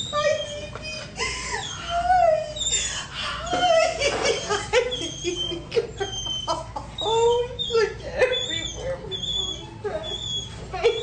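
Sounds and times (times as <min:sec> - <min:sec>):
dog whining and whimpering: 0:00.0 - 0:11.0
dog yipping: 0:00.0 - 0:11.0.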